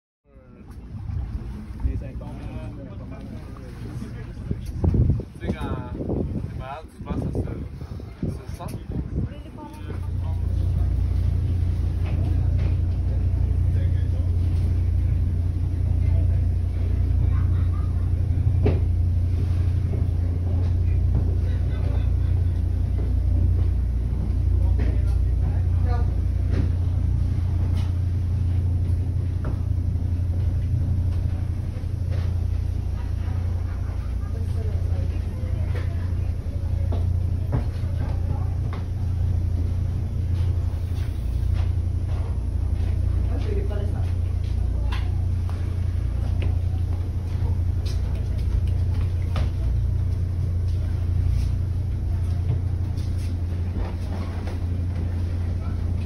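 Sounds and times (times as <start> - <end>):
faint voices: 0.3 - 56.0
ferry engine idling: 0.4 - 56.0.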